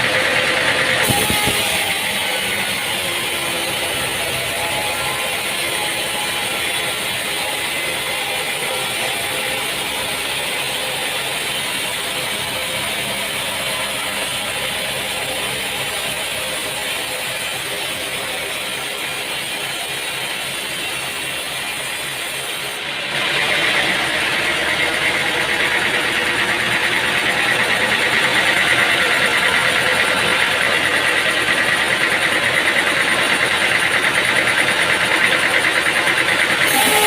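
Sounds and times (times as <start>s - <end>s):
machinery running: 0.0s - 37.0s
pulsing machine sound: 0.0s - 37.0s.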